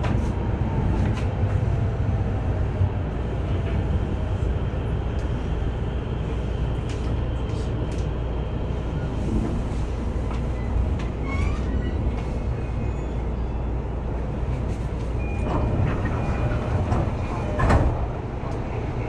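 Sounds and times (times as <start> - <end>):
train carriage rumble: 0.0 - 19.0.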